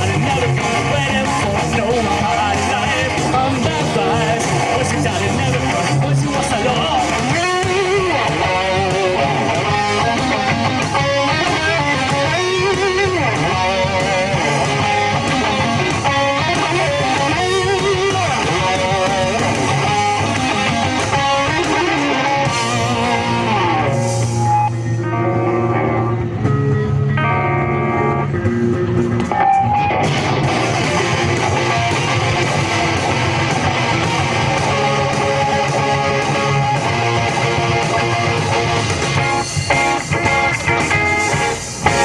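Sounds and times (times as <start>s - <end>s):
picked guitar notes: 0.0s - 42.0s
rock band playing: 0.0s - 42.0s.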